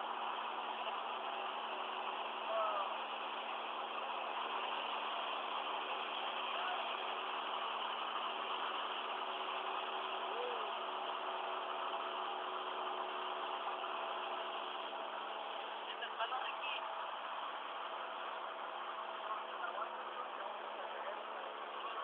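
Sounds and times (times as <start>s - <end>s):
aircraft engine and propeller droning: 0.0s - 22.0s.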